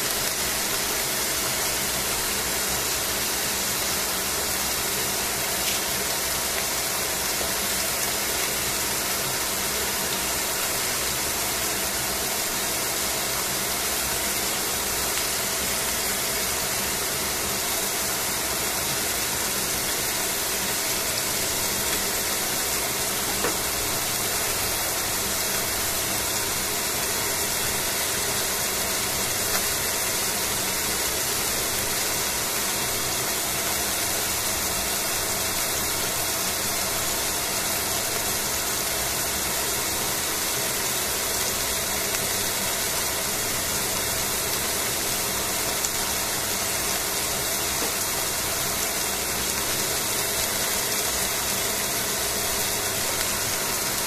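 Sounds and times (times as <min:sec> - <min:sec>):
chicken sizzling in a pan: 0:00.0 - 0:54.0.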